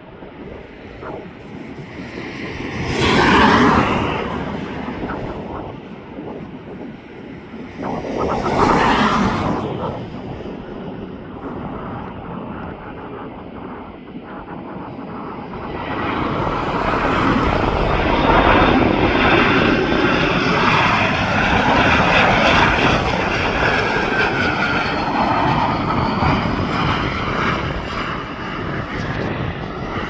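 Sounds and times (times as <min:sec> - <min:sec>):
airplane engines passing: 0:00.0 - 0:30.0.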